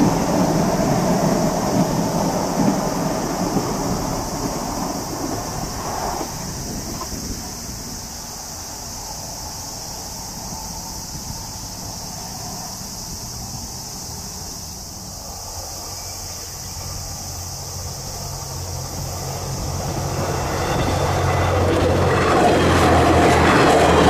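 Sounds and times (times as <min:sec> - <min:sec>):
approaching train rumble: 0:00.0 - 0:24.0
insects droning: 0:00.0 - 0:24.0.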